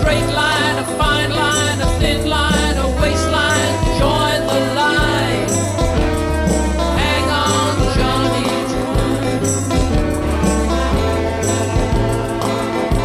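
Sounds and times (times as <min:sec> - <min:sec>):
person singing: 0:00.0 - 0:10.9
low bass notes: 0:00.0 - 0:13.0.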